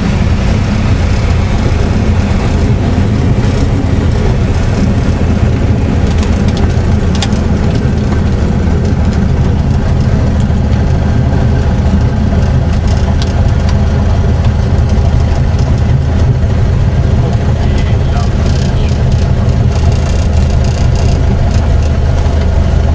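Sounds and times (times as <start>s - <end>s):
aircraft engine and propeller: 0.0s - 22.9s.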